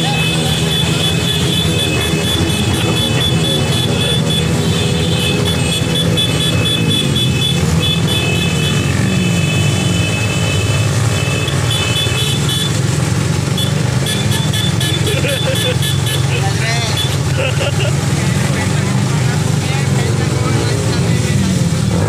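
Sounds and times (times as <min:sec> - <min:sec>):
small motorcycle engines: 0:00.0 - 0:22.0.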